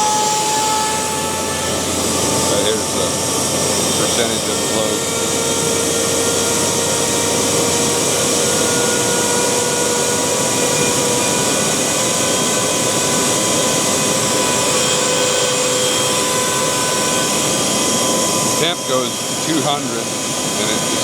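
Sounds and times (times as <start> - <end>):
steady whining tones: 0.0 - 21.0.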